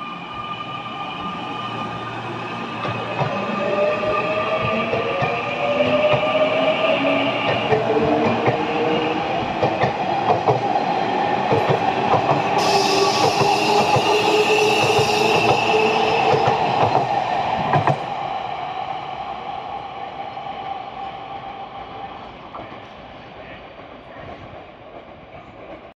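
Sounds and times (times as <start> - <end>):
train running noise: 0.0 - 25.9.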